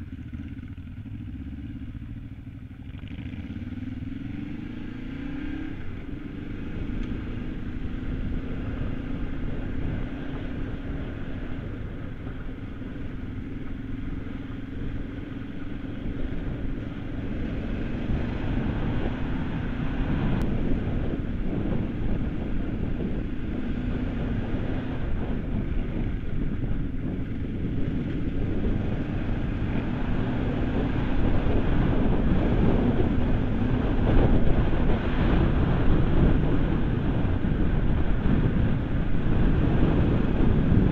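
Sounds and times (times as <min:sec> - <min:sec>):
motorcycle engine cruising: 0:00.0 - 0:40.9
wind rumble on microphone: 0:00.0 - 0:40.9.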